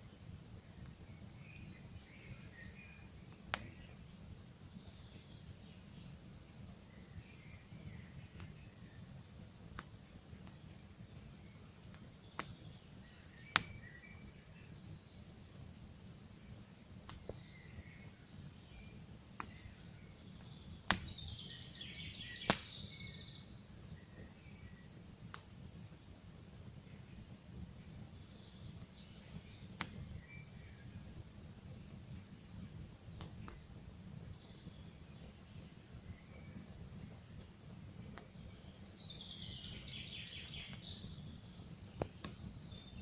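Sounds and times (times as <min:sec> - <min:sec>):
small birds chirping: 0:00.0 - 0:43.0
campfire crackling and popping: 0:00.1 - 0:43.0.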